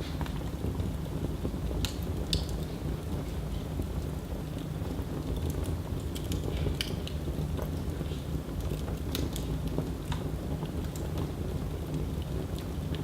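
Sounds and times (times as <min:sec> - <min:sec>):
fire crackling and popping: 0:00.0 - 0:13.0
fire flames rumbling: 0:00.0 - 0:13.0.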